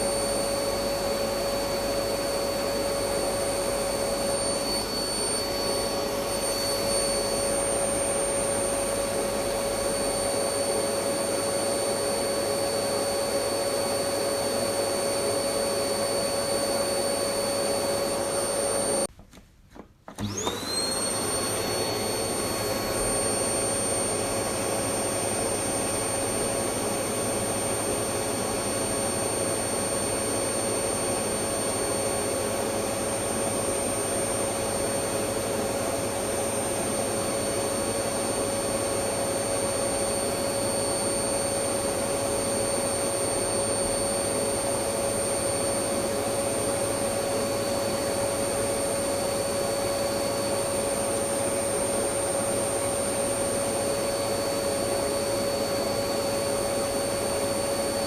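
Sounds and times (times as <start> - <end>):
vacuum cleaner running: 0.0 - 19.1, 19.8 - 58.0.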